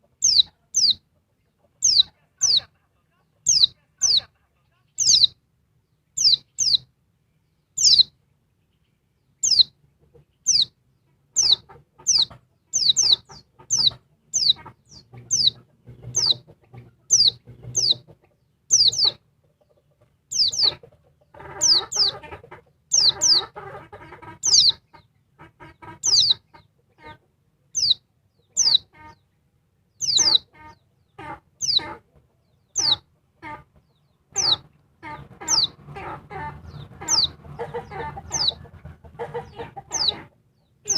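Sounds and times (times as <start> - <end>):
bird clucking chatter: 0.0 - 5.4, 6.2 - 6.9, 7.8 - 8.1, 8.7 - 40.9
bird chirping: 0.0 - 40.9.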